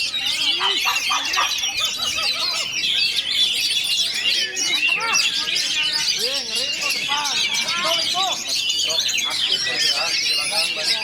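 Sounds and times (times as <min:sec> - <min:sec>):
chorus of birds singing: 0:00.0 - 0:11.0.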